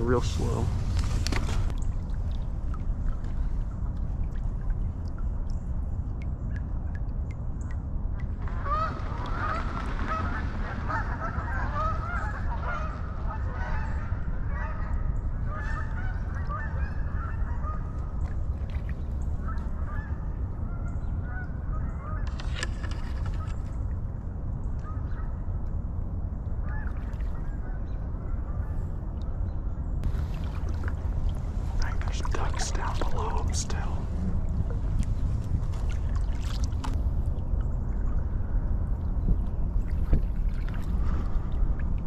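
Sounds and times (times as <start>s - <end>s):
steady low rumble: 0.0s - 22.4s, 23.0s - 42.0s.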